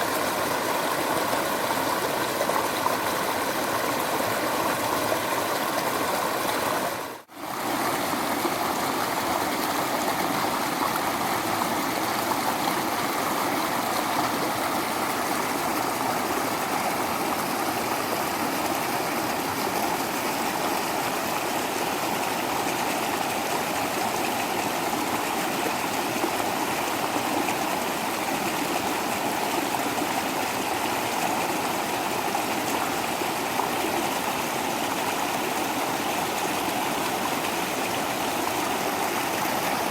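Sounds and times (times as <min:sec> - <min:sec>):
small waterfall rushing and splashing: 0:00.0 - 0:39.9.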